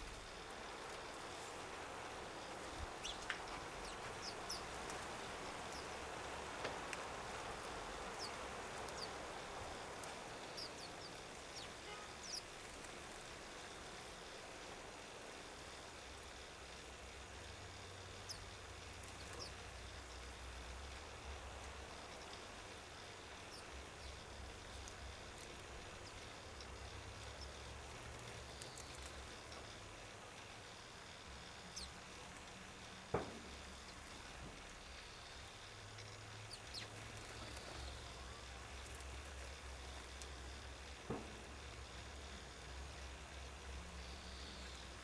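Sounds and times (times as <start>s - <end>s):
small birds chirping: 0.0s - 45.0s
steady background hiss: 0.0s - 45.0s.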